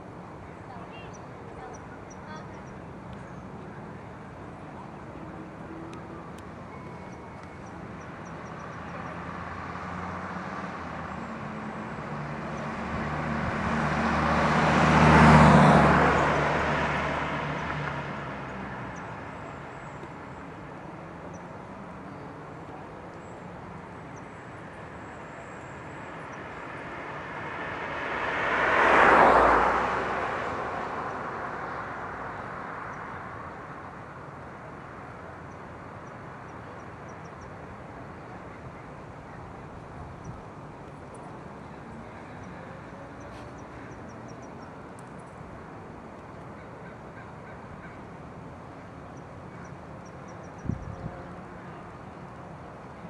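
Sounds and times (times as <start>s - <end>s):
low engine hum: 0.0s - 53.0s
vehicles passing on road: 0.0s - 53.0s.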